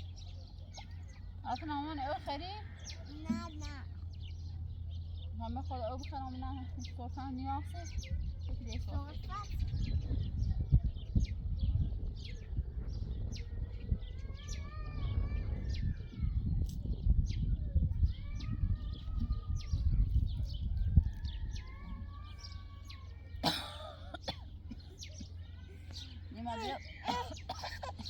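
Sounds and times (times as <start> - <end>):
low steady rumble: 0.0 - 28.0
small birds chirping: 0.0 - 28.0.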